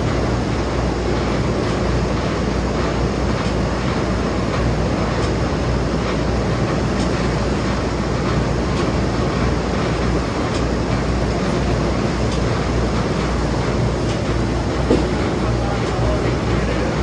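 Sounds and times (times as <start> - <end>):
loud machinery rumble: 0.0 - 17.0.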